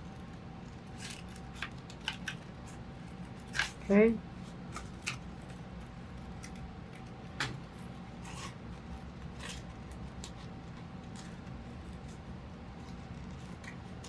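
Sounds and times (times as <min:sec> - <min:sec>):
scissors snipping paper: 0:00.2 - 0:04.0, 0:04.7 - 0:14.0.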